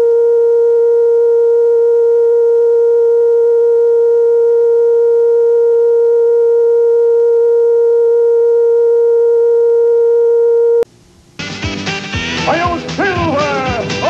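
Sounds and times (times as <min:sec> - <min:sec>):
steady test tone: 0:00.0 - 0:11.7.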